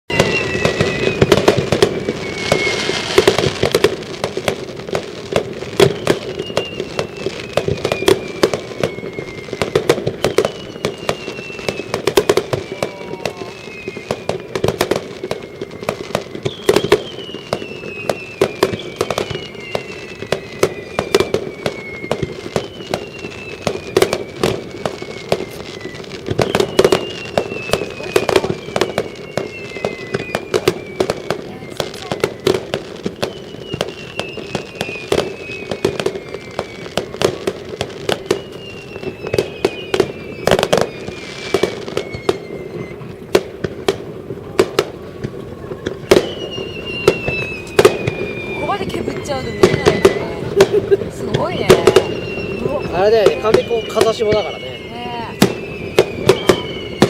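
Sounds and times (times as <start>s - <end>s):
falling firework whistles: 0.1s - 57.0s
fireworks bangs and crackles: 0.1s - 57.0s.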